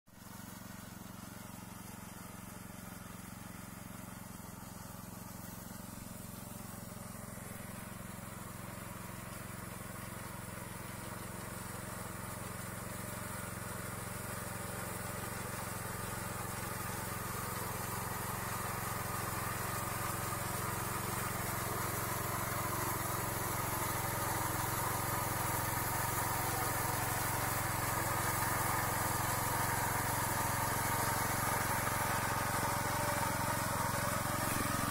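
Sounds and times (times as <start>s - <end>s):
small reaper engine running: 0.2s - 34.9s.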